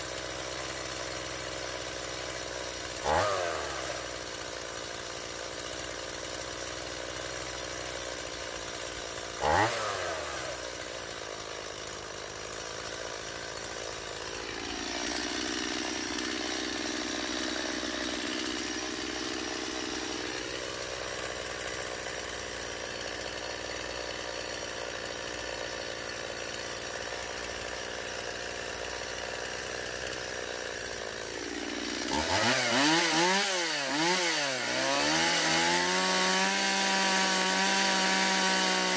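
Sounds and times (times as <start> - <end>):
chainsaw engine idling and revving: 0.0 - 38.9.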